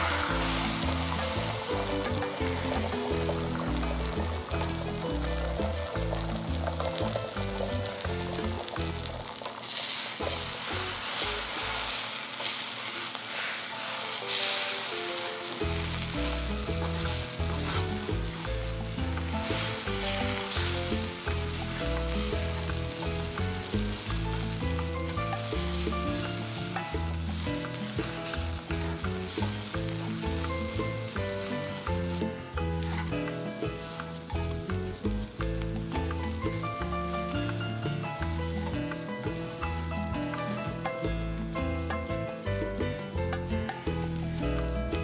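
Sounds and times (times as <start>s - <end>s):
background music: 0.0s - 13.2s, 13.8s - 45.0s
eggs sizzling on hot iron: 0.0s - 45.0s.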